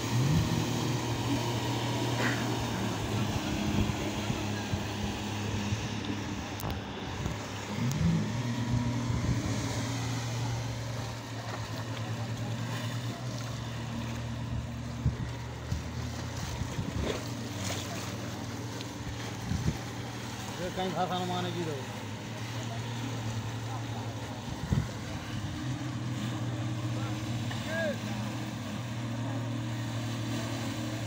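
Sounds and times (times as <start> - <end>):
motorboat engine running: 0.0 - 31.0
rushing water: 0.0 - 31.0
wind: 0.0 - 31.0.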